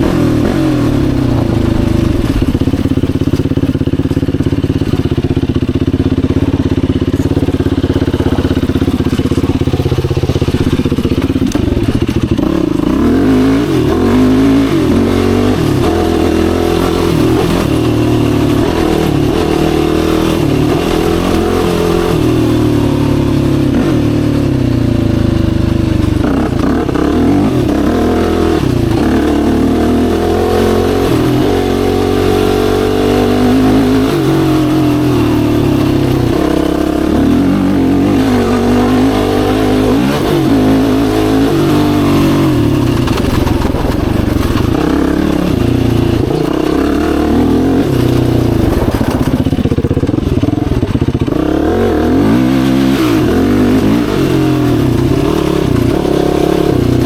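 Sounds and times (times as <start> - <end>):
quad engine revving while riding: 0.0 - 57.0.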